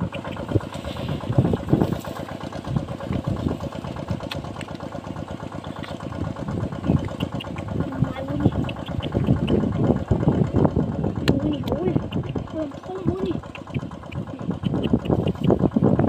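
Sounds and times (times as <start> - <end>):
water pump motor running: 0.0 - 16.0.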